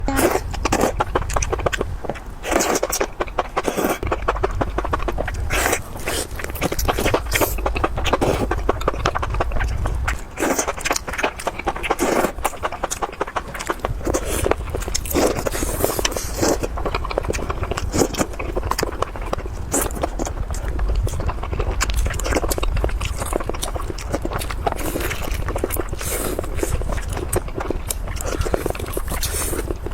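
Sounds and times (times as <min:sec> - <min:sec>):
chewing and biting food: 0:00.0 - 0:29.9
low steady rumble: 0:00.0 - 0:29.9.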